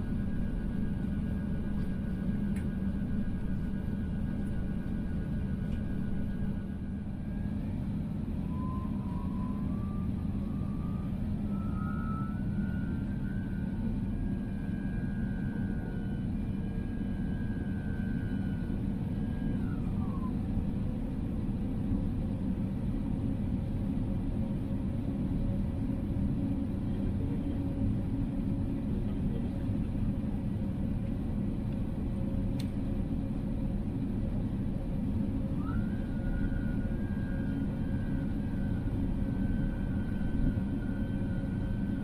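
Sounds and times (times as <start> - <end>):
aircraft cabin rumble: 0.0 - 42.0
thin whine: 0.0 - 42.0.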